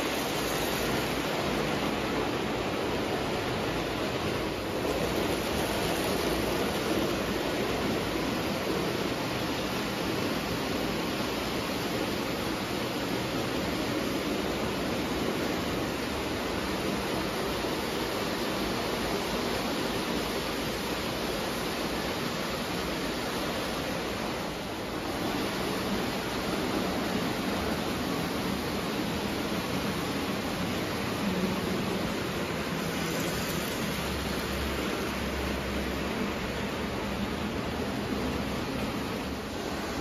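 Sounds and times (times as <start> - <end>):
toy train wheels rumbling on rails: 0.0 - 23.0, 25.0 - 35.4.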